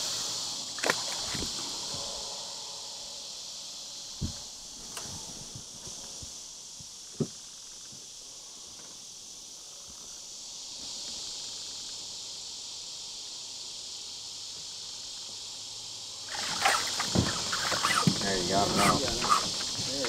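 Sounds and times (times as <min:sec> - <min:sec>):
crickets and insects chirring: 0:00.0 - 0:20.0.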